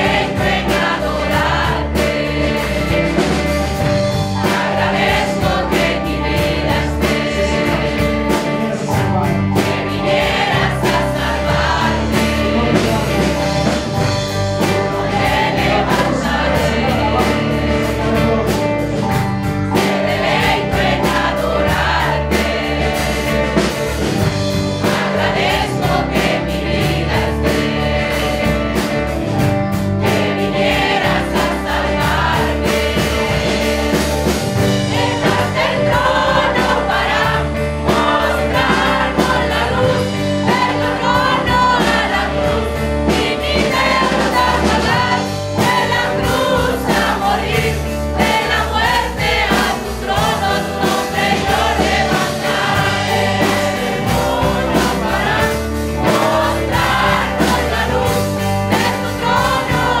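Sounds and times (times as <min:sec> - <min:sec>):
mixed choir singing worship song: 0:00.0 - 1:00.0.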